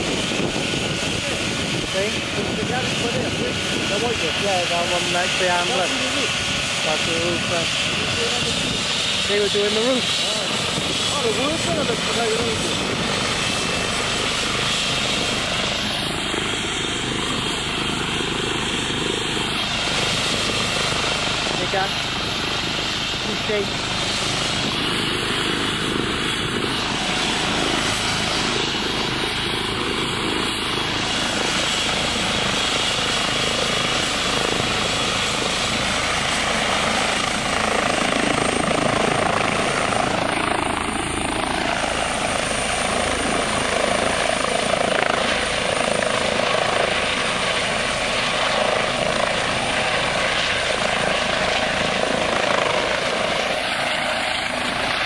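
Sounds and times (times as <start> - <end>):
helicopter rotor and engine: 0.0 - 55.0
high turbine whine: 0.0 - 55.0.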